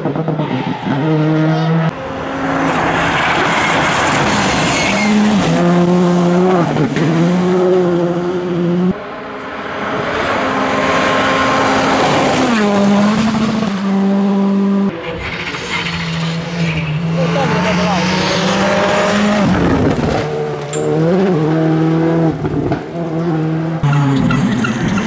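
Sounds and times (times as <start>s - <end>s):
rally car engines revving high: 0.0s - 25.0s.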